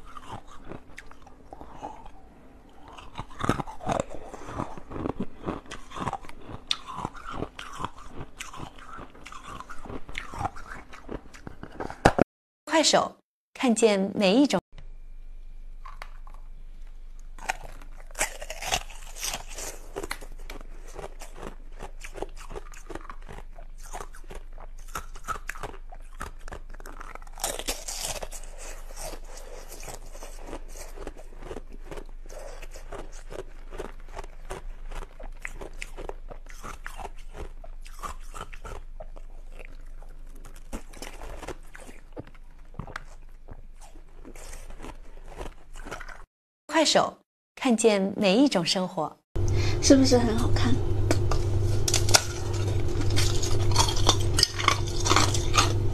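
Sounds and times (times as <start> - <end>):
ice being chewed: 0.0 - 12.2, 15.8 - 46.3, 51.1 - 55.9.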